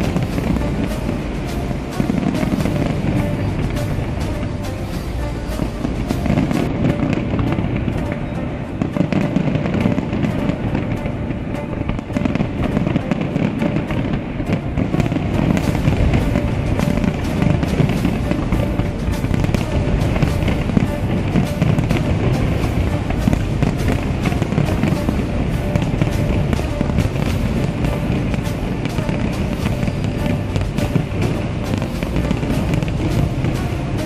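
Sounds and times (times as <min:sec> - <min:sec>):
fireworks bangs and crackling: 0:00.0 - 0:34.0
music playing: 0:00.0 - 0:34.0.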